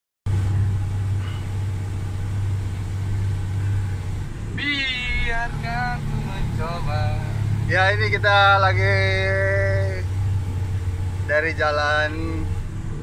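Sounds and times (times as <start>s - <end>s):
truck diesel engine droning: 0.3s - 13.0s.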